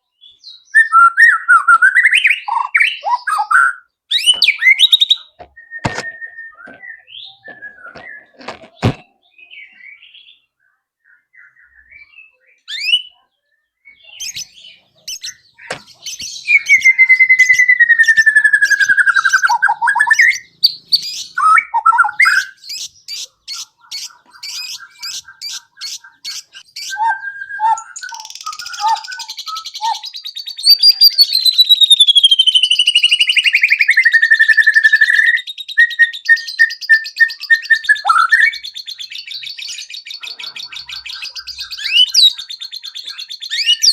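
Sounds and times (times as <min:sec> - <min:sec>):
bird singing whistles and trills: 0:00.1 - 0:43.9.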